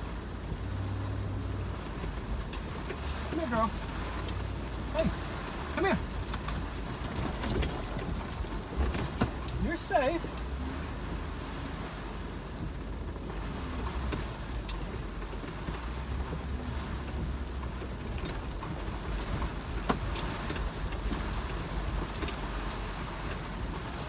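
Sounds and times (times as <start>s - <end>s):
low engine and road rumble: 0.0s - 24.0s.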